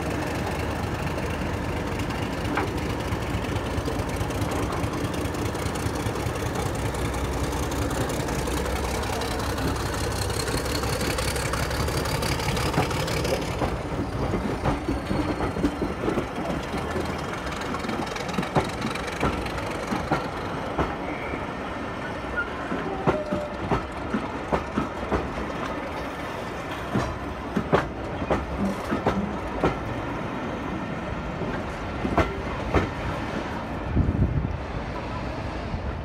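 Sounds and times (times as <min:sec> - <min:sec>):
wheels clacking over rail joints: 0:00.0 - 0:21.3, 0:21.9 - 0:33.7
train rumbling past: 0:00.0 - 0:36.0.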